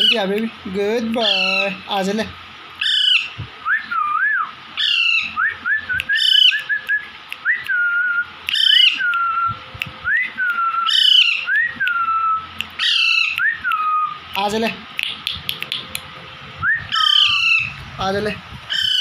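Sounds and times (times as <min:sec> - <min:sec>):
parakeets calling: 0:00.0 - 0:06.9, 0:07.8 - 0:09.8, 0:10.4 - 0:19.0.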